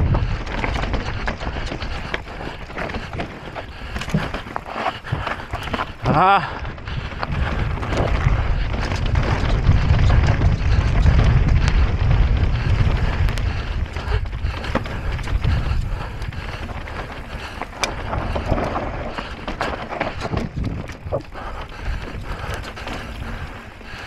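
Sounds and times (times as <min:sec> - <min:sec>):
bike and stones clicking: 0:00.0 - 0:24.0
tyres rolling over rough ground: 0:00.0 - 0:24.0
wind buffeting microphone: 0:00.0 - 0:24.0.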